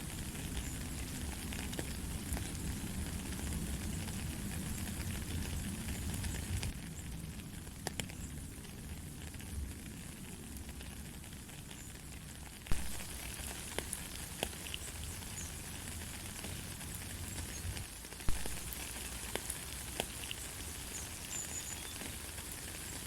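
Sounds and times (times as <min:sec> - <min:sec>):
light rain: 0:00.0 - 0:23.0.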